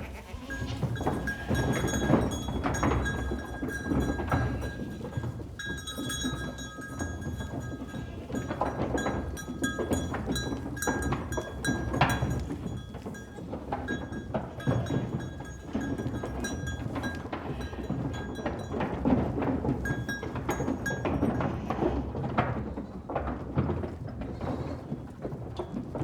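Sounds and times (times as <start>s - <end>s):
goat bells clanking: 0.2s - 22.8s.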